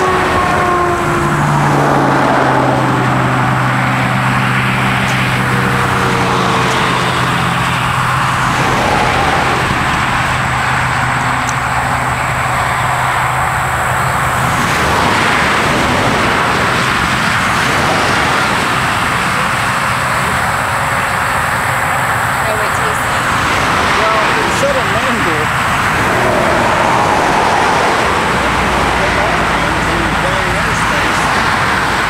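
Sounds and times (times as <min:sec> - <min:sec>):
low engine hum: 0:00.0 - 0:32.0
road and tyre noise: 0:00.0 - 0:32.0.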